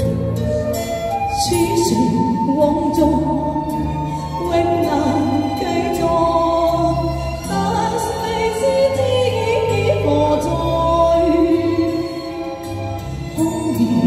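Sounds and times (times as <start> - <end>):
woman singing into a microphone: 1.2 - 12.4, 13.3 - 14.0.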